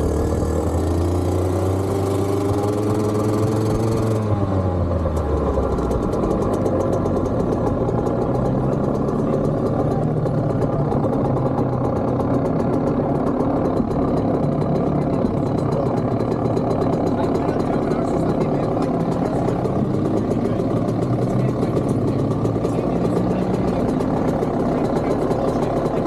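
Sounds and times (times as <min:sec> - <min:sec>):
motorbike engine idling: 0:00.0 - 0:26.0.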